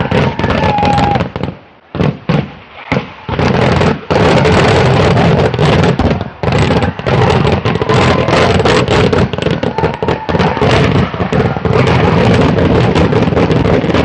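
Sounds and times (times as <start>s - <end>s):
rapid firecracker bangs: 0.0s - 14.0s.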